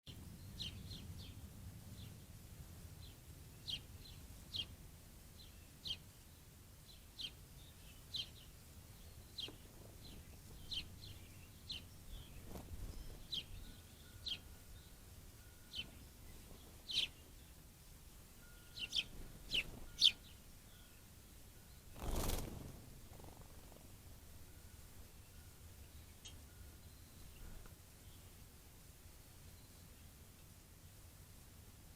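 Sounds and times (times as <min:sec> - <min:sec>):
sparrows chirping: 0:00.1 - 0:30.2.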